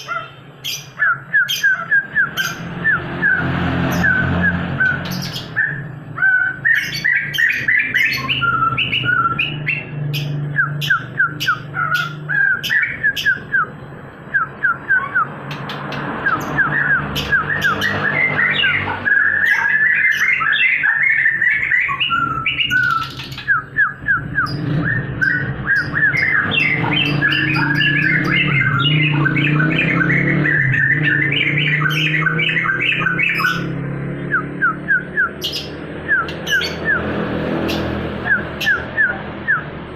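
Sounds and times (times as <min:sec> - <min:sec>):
songbird chattering: 0:04.8 - 0:13.8, 0:14.4 - 0:34.4, 0:35.0 - 0:39.7.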